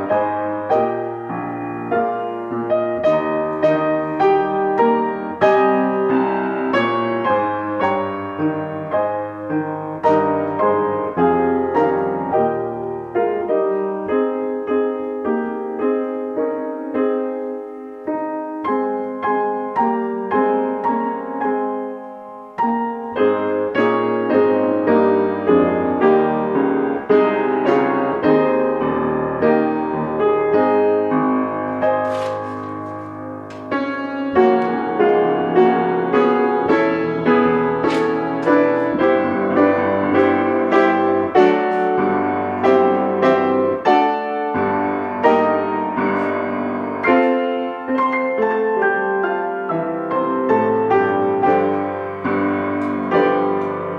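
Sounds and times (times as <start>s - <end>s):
slow gentle piano piece: 0.0s - 53.9s.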